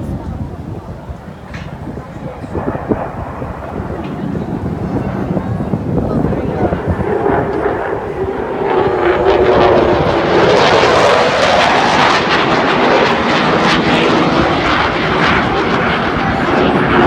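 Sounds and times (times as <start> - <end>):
fighter jet flying past: 0.0 - 17.0.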